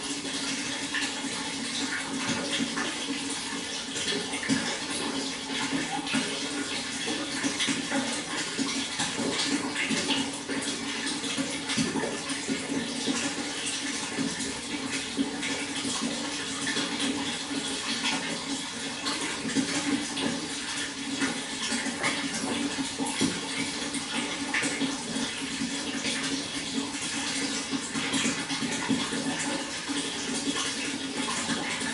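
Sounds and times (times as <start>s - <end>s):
water flowing: 0.0s - 31.9s.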